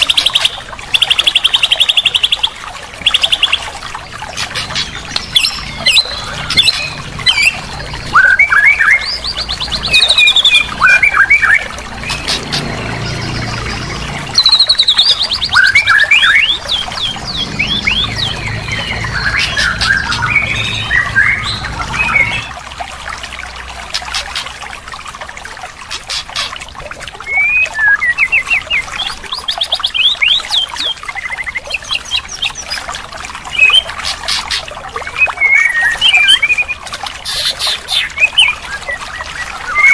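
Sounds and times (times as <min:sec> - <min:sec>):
songbirds singing: 0:00.0 - 0:24.7, 0:25.9 - 0:39.9.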